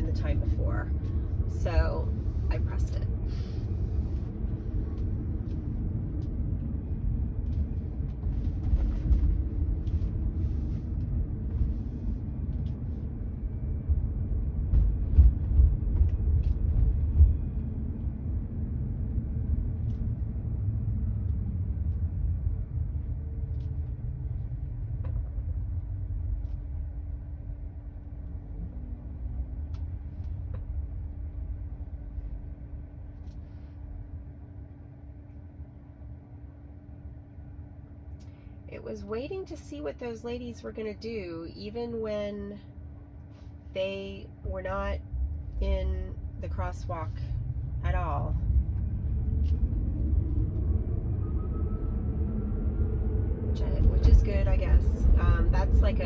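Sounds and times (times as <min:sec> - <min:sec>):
road rumble and tyre noise: 0:00.0 - 0:35.4, 0:37.5 - 0:56.0
faint steady hum: 0:00.0 - 0:56.0.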